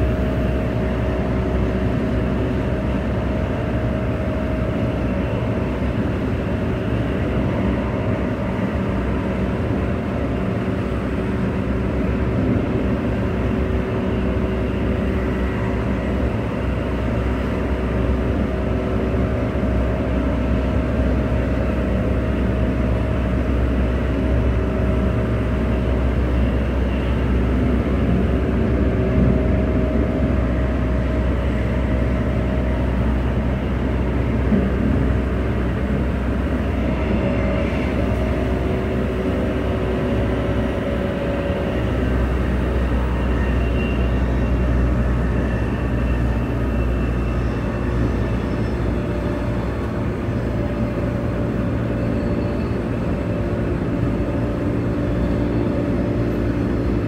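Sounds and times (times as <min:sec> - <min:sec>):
constant hums: 0:00.0 - 0:57.0
train cabin rumble: 0:00.0 - 0:57.0.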